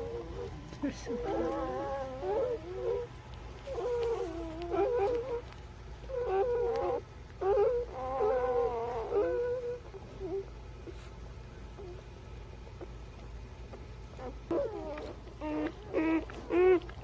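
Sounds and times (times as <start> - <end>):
puppies whining: 0.0 - 12.1, 12.8 - 17.0.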